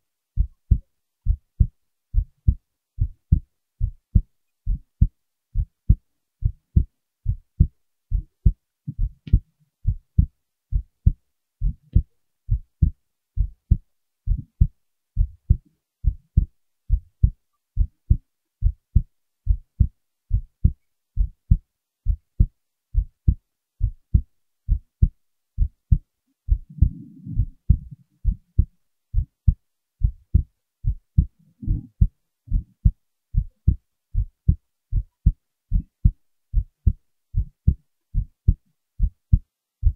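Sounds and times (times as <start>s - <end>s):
heartbeat thumps: 0.4s - 39.9s.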